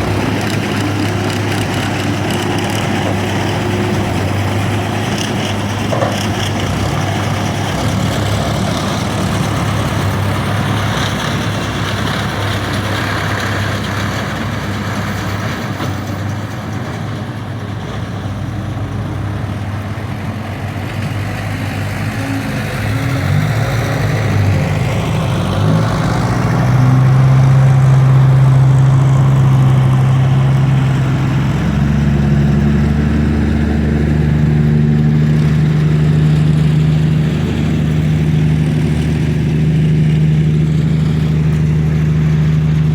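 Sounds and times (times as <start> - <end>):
heavy vehicle engine revving: 0.0 - 42.9.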